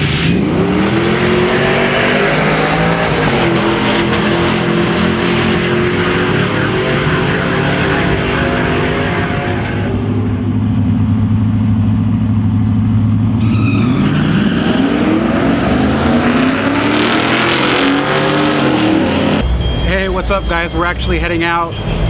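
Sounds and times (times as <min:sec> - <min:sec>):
truck engine revving: 0:00.0 - 0:19.8.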